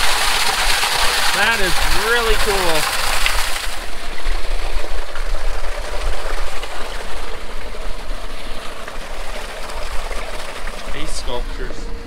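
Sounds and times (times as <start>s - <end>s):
water rushing from pipe: 0.0s - 12.0s.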